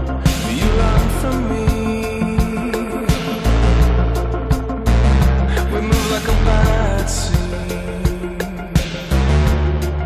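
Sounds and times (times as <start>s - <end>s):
music with drums and heavy bass: 0.0s - 10.0s.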